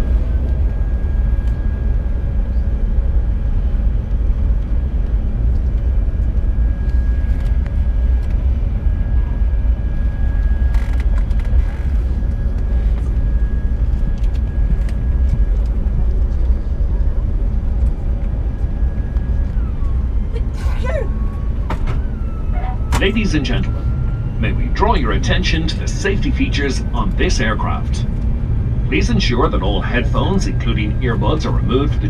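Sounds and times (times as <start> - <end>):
aircraft cabin low rumble: 0.0 - 32.0
faint engine whine: 0.0 - 32.0.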